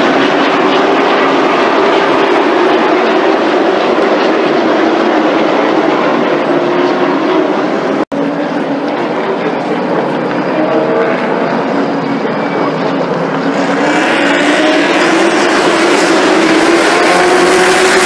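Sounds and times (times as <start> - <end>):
stock car engines racing: 0.0 - 18.0.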